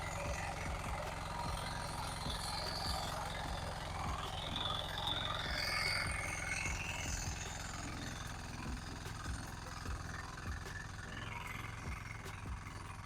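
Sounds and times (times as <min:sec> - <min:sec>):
farm machine engine running: 0:00.0 - 0:13.0.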